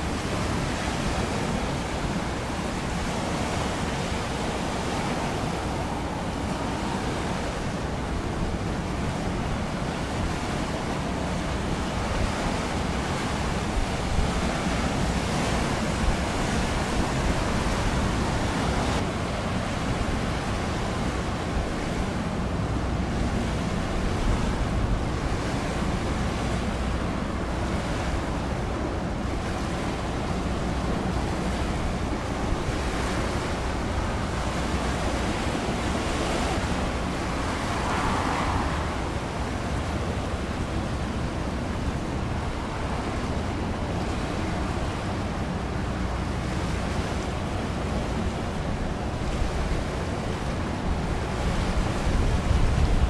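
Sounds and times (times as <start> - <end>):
choppy sea water: 0.0 - 53.0
steady wind: 0.0 - 53.0
wind rumbling on microphone: 0.0 - 53.0.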